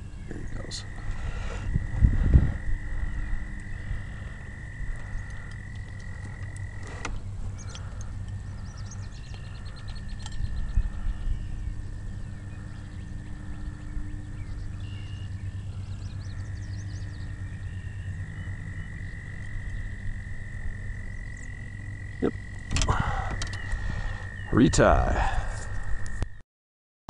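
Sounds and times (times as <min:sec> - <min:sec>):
low rumble: 0:00.0 - 0:26.2
frogs trilling: 0:00.0 - 0:26.4.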